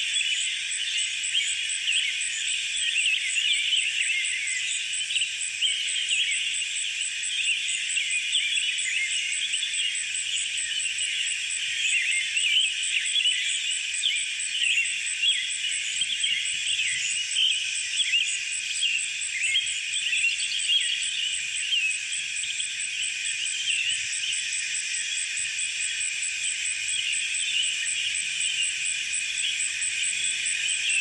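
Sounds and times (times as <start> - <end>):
birds chirping and twittering: 0.0 - 31.0.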